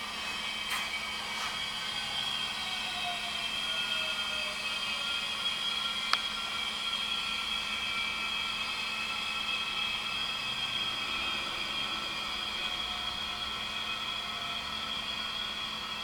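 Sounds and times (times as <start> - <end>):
pneumatic lift hissing whir: 0.0 - 16.0.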